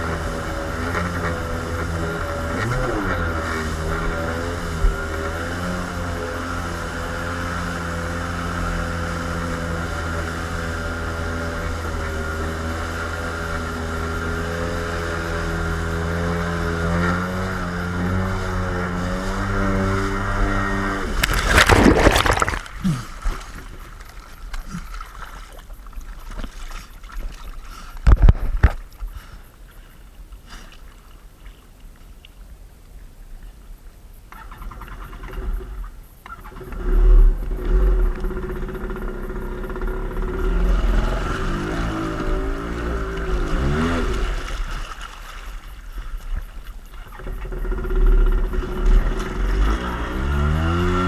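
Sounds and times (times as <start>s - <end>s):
watercraft engine running: 0.0s - 30.8s, 34.6s - 51.0s
water splashing: 0.0s - 32.5s, 38.1s - 50.9s.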